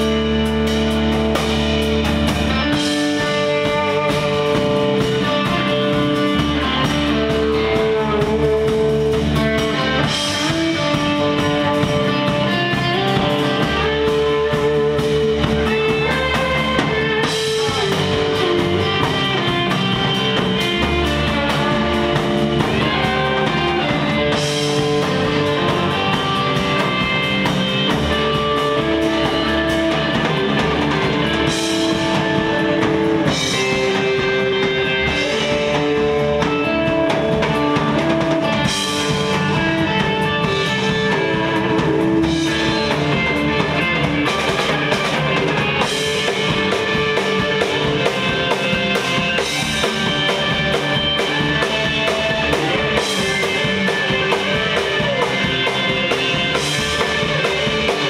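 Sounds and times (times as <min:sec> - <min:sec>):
bass guitar: 0:00.0 - 0:58.0
drum kit: 0:00.0 - 0:58.0
electric guitar melody: 0:00.0 - 0:58.0.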